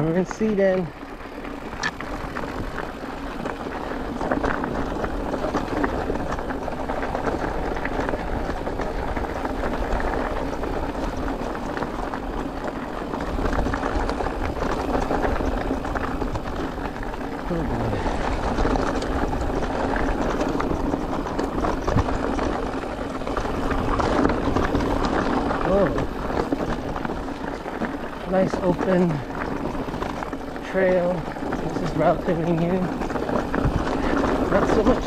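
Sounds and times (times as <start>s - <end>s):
bike tyres crunching on gravel: 0.0s - 35.0s
stones and bike rattling: 0.0s - 35.0s
wind rumble on microphone: 0.0s - 35.0s.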